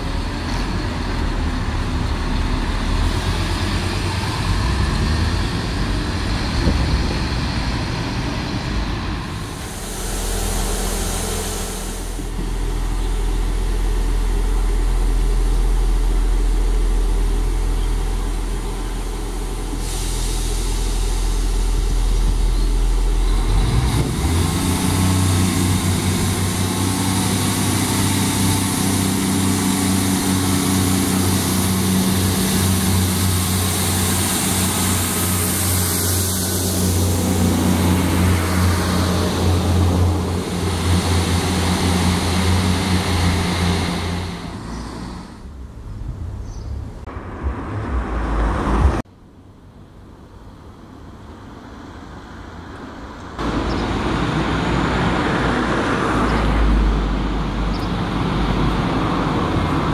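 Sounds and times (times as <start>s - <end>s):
train diesel engines idling: 0.0s - 48.0s, 49.2s - 59.9s
train pulling away under power: 0.0s - 49.1s, 50.1s - 59.9s.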